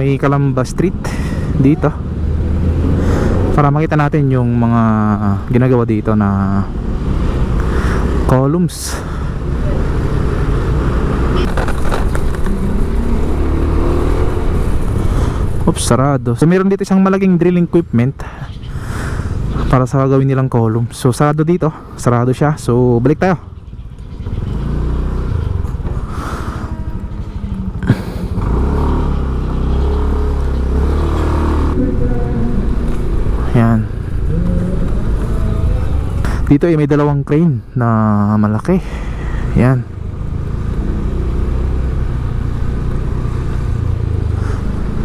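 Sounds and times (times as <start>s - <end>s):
vehicle engine running: 0.0s - 16.5s, 23.6s - 36.9s, 38.0s - 45.0s
street traffic: 0.0s - 45.0s.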